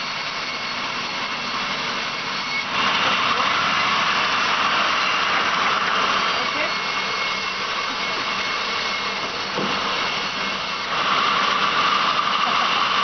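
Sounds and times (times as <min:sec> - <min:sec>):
sawmill saw cutting log: 0:00.0 - 0:13.0.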